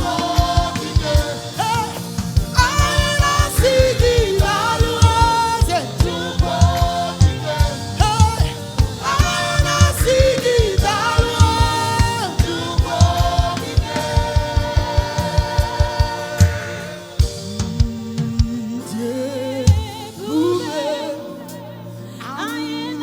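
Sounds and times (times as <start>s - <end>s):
band with steady drum beat: 0.0s - 20.6s
choir singing in harmony: 0.0s - 23.0s.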